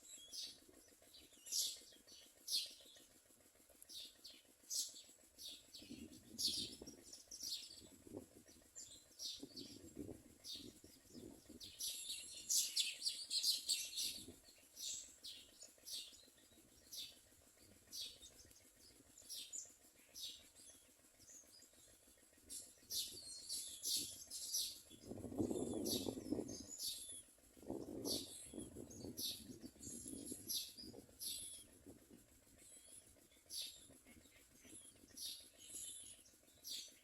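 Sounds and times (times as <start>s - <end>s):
birds chirping: 0.1s - 3.0s, 3.9s - 37.0s.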